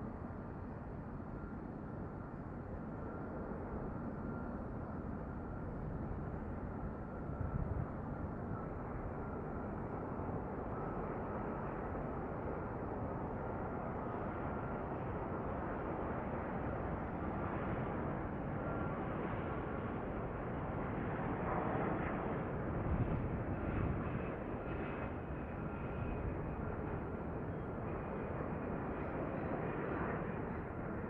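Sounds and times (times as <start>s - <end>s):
distant jet airliner engine: 0.0s - 31.0s.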